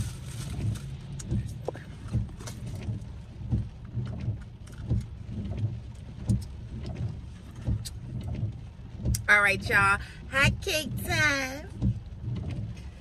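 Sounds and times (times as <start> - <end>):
car cabin hum: 0.0 - 13.0
rain on car roof: 0.0 - 13.0.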